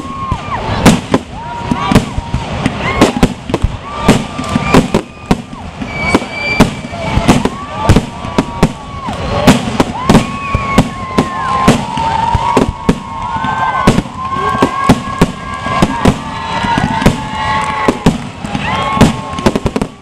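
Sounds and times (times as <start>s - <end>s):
firework whistling tones: 0.0s - 20.0s.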